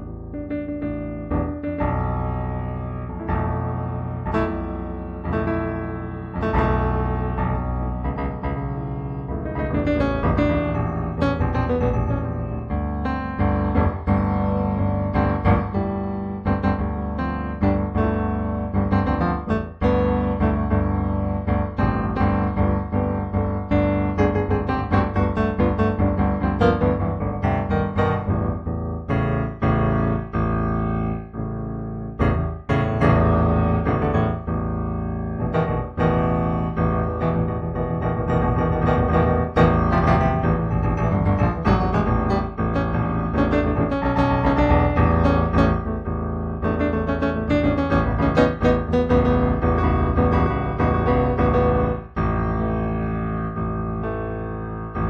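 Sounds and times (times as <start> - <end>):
solo piano music: 0.0 - 55.0.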